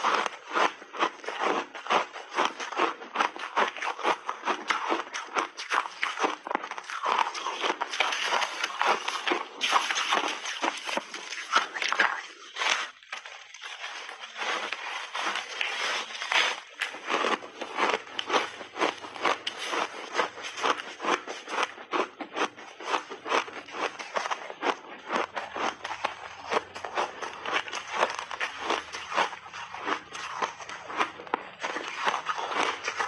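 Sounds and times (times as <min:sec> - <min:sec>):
ice being bitten and chewed: 0:00.0 - 0:33.0.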